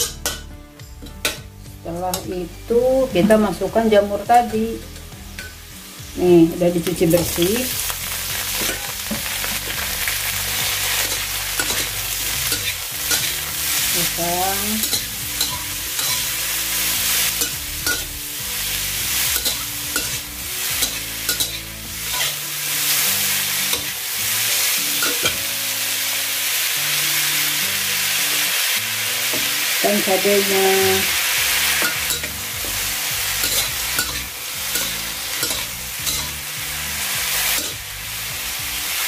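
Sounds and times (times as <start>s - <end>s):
mushrooms sizzling in oil: 0.0s - 39.0s.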